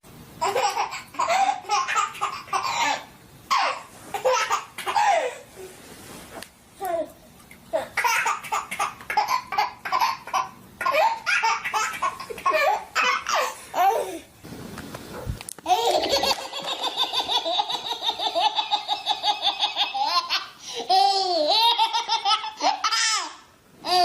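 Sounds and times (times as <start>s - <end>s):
baby laughing: 0.4s - 5.4s, 7.8s - 14.2s, 15.6s - 24.0s.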